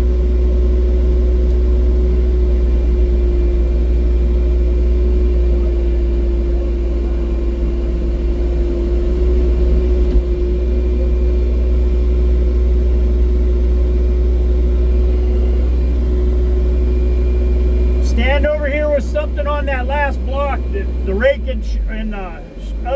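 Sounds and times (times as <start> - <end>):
excavator diesel engine rumbling: 0.0 - 22.9.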